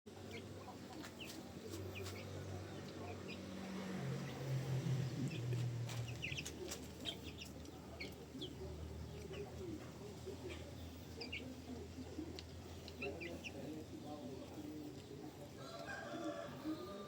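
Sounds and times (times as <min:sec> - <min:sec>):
chickens clucking: 0:00.1 - 0:17.0.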